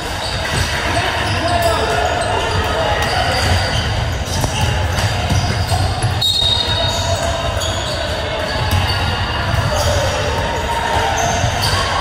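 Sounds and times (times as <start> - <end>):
basketball bouncing on court: 0.0 - 11.9
shoe squeaks: 0.0 - 12.0.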